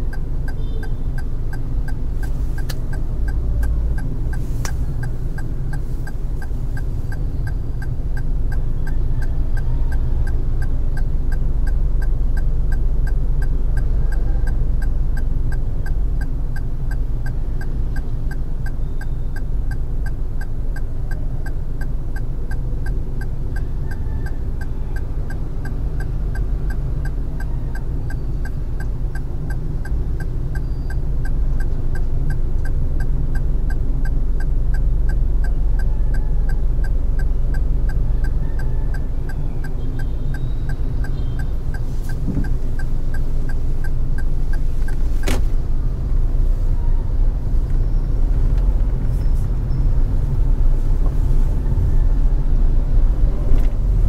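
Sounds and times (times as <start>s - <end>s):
car road and engine rumble: 0.0s - 54.0s
faint even ticking: 0.1s - 46.5s.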